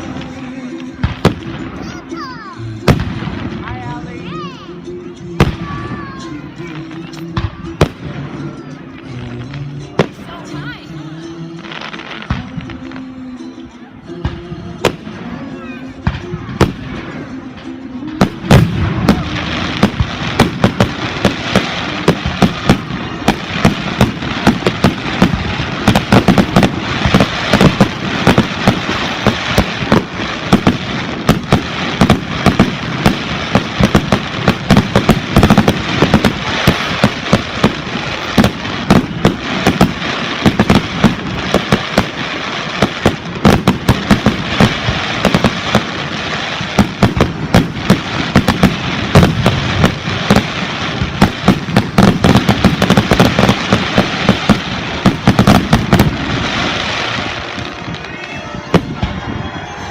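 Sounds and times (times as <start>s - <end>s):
fireworks bangs: 0.0s - 13.4s, 14.2s - 59.9s
fireworks crackle: 0.0s - 13.5s, 14.1s - 59.9s.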